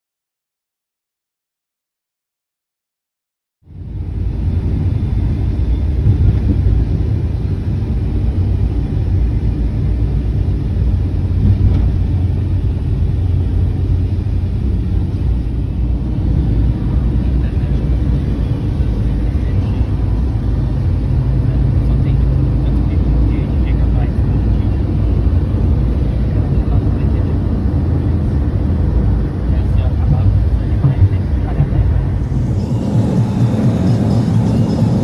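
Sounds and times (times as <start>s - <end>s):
vehicle rumble inside cabin: 3.6s - 35.0s.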